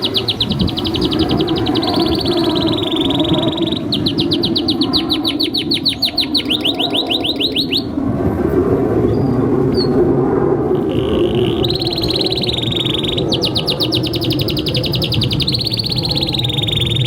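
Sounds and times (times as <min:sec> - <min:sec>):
canary singing: 0:00.0 - 0:08.0, 0:10.8 - 0:17.0.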